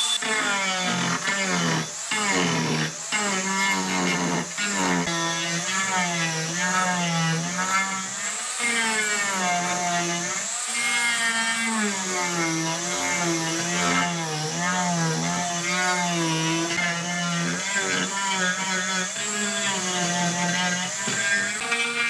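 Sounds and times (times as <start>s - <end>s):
angle grinder sanding wood: 0.0s - 22.0s.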